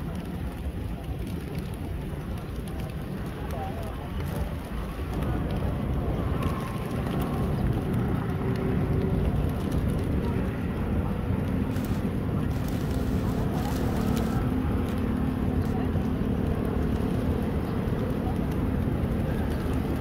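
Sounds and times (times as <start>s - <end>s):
engine hum: 0.0s - 20.0s
traffic noise: 0.0s - 20.0s.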